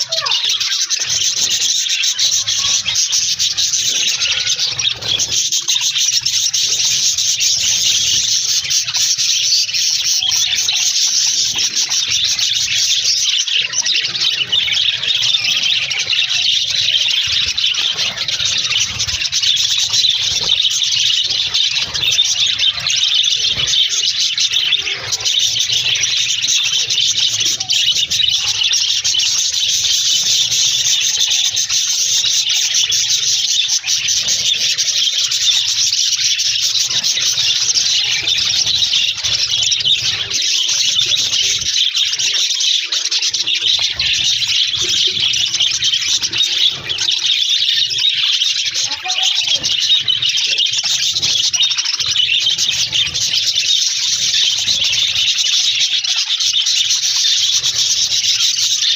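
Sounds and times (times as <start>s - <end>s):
budgerigars chattering and warbling: 0.0s - 58.9s.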